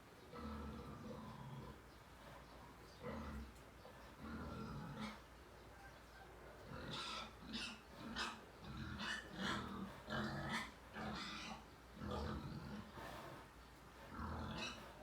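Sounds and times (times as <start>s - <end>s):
sow grunting: 0.3s - 5.4s, 6.6s - 13.4s, 14.0s - 15.0s.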